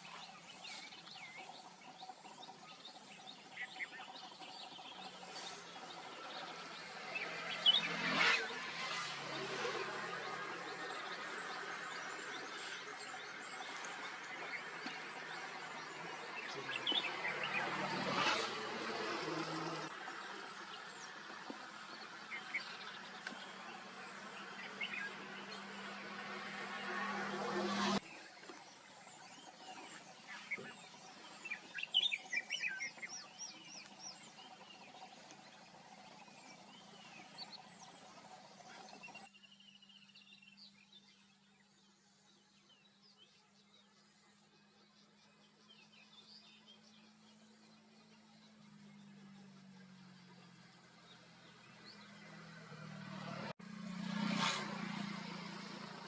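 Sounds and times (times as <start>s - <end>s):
small birds chirping: 0.0s - 53.6s.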